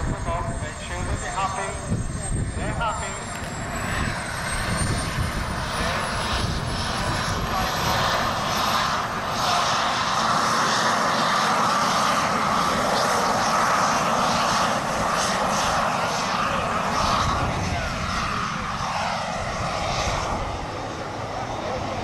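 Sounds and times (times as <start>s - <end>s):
jet turbines rushing whine: 0.0s - 22.0s.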